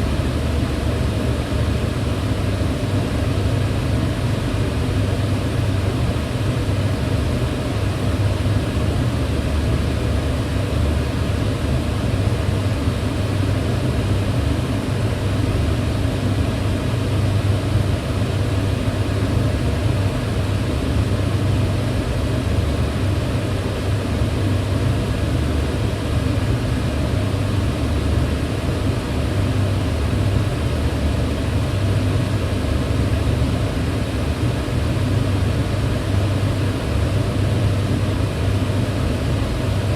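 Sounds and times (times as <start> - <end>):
range hood fan running: 0.0 - 39.9.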